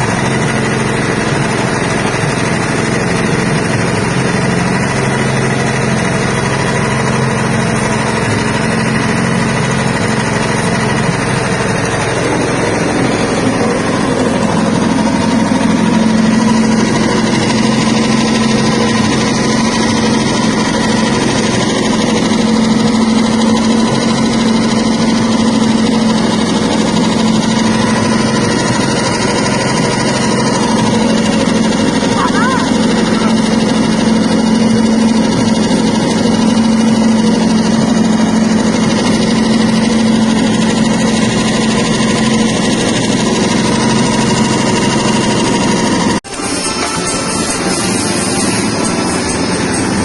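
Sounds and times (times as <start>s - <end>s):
machine motor hum with whining: 0.0s - 50.0s.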